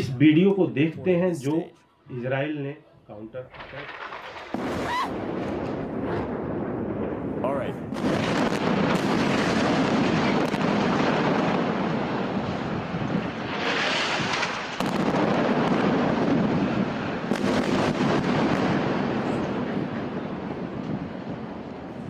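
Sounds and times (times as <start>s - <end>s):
rumble of falling debris: 3.5s - 7.4s, 8.0s - 22.0s
explosions: 3.5s - 22.0s.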